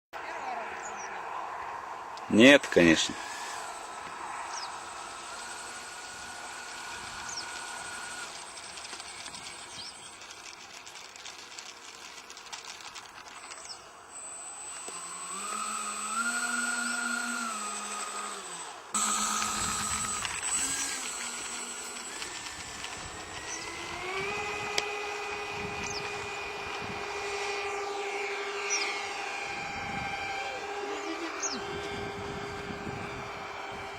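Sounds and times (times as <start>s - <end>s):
model jet motors whining: 2.3s - 33.9s.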